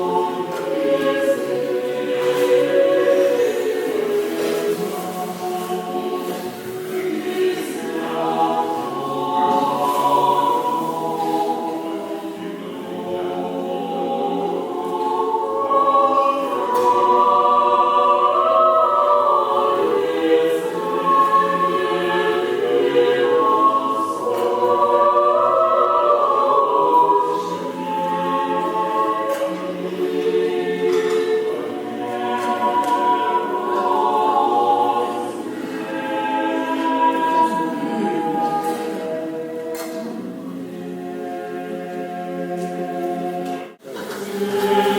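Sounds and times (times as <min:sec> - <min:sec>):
choir chanting unaccompanied: 0:00.0 - 0:44.9.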